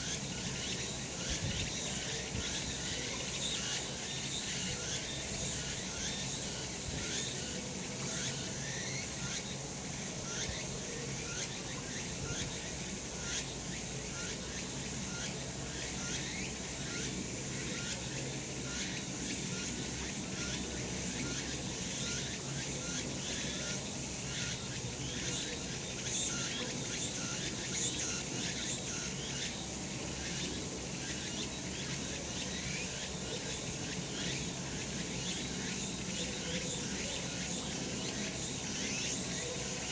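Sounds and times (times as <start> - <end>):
cicadas buzzing in chorus: 0.0 - 39.9.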